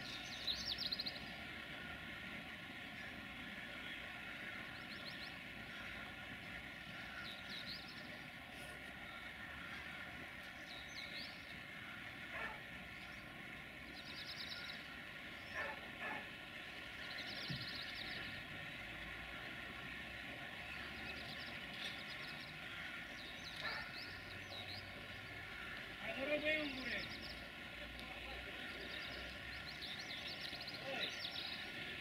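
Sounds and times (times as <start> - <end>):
birds singing: 0.0 - 32.0.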